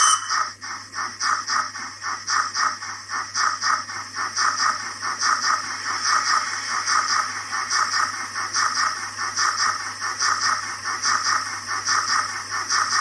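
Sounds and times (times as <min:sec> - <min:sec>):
model steam locomotive rattling: 0:00.0 - 0:13.0.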